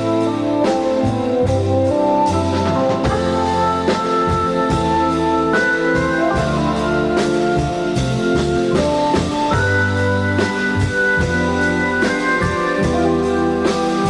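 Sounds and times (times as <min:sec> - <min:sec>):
instrumental music with drum beat: 0:00.0 - 0:14.0.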